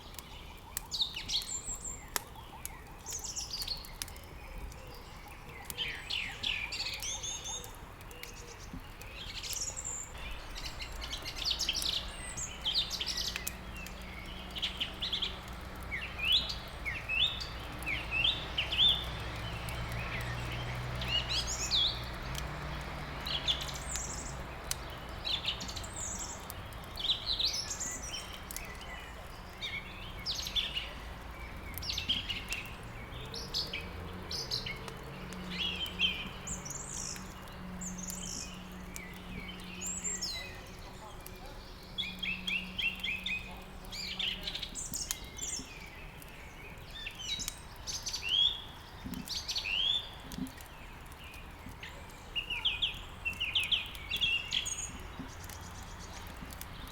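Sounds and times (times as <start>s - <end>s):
songbirds chirping: 0.0s - 56.9s
wood fire crackling: 0.0s - 56.9s.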